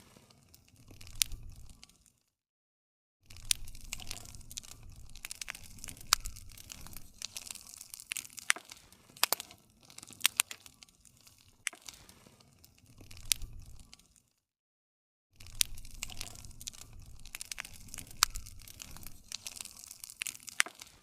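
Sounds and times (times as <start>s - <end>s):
low rumble of flame: 0.0s - 2.1s, 3.3s - 14.2s, 15.4s - 21.0s
wood fire crackling: 0.0s - 2.2s, 3.3s - 14.4s, 15.4s - 21.0s.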